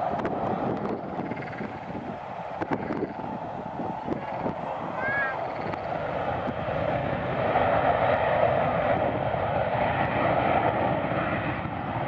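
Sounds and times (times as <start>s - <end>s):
jet engines at high thrust: 0.0s - 12.0s.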